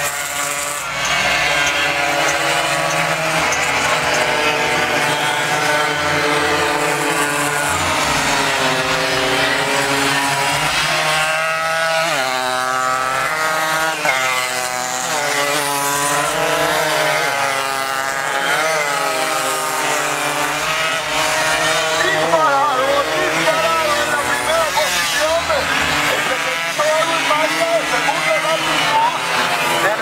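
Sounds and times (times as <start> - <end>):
motorcycles revving hard: 0.0 - 30.0.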